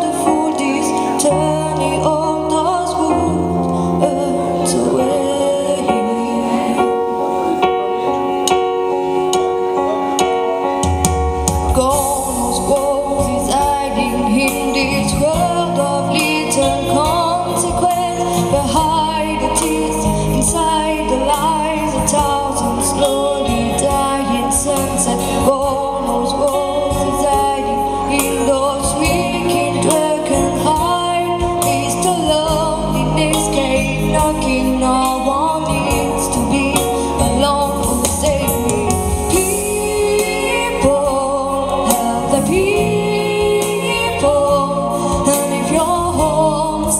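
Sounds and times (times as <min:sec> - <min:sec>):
band accompaniment: 0:00.0 - 0:46.9
woman singing into a microphone: 0:00.0 - 0:46.9.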